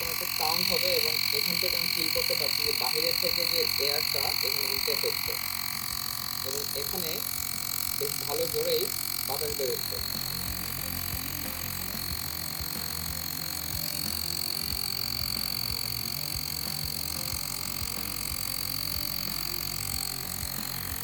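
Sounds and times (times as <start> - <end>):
air blowing from nozzle: 0.0 - 21.0
small compressor whining: 0.0 - 21.0.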